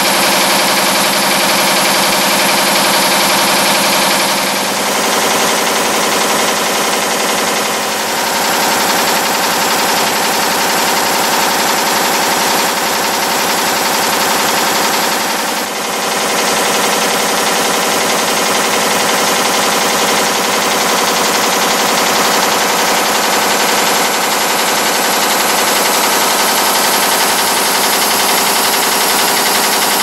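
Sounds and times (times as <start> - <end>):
nail-making machine metallic clatter: 0.0 - 30.0.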